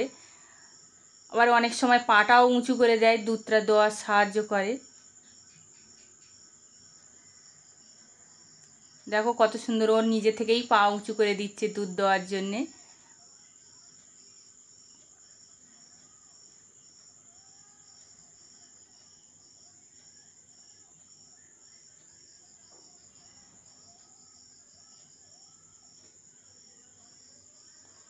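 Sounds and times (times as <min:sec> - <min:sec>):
crickets chirping faintly: 0:00.0 - 0:28.0.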